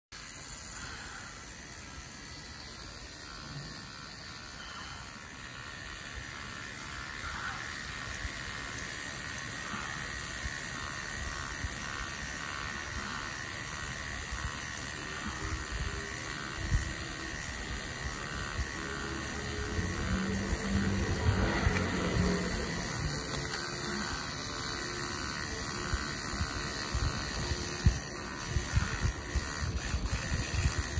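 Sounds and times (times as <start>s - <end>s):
electric toothbrush buzzing: 0.0s - 30.9s.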